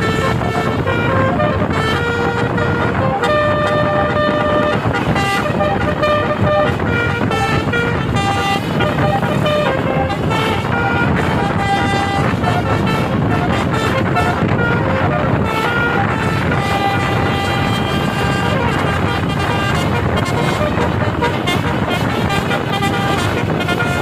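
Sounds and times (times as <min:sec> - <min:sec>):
multi-tone bus horn tune: 0:00.0 - 0:24.0
steady noisy rumble: 0:00.0 - 0:24.0.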